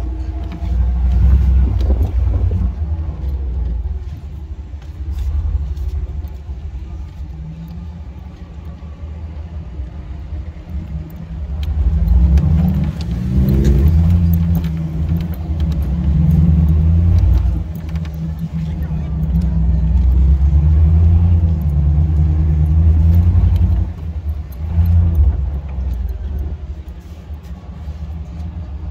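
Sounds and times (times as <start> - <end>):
engine droning and revving: 0.0 - 28.9.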